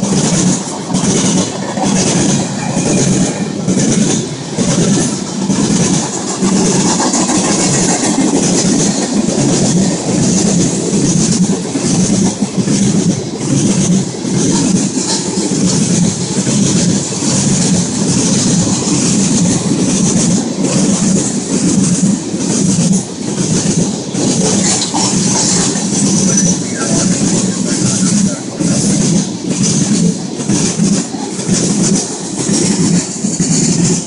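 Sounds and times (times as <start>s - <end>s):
train wheels clattering on rails: 0.0s - 34.0s.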